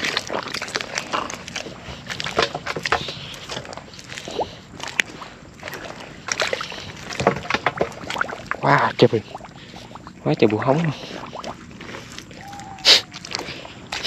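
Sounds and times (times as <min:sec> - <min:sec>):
footsteps wading through water and mud: 0:00.0 - 0:14.0.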